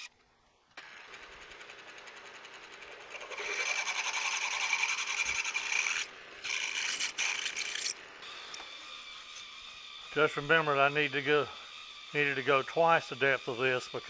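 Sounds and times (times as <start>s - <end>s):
drill spindle running: 0.8s - 14.0s
drill boring into steel: 2.5s - 14.0s.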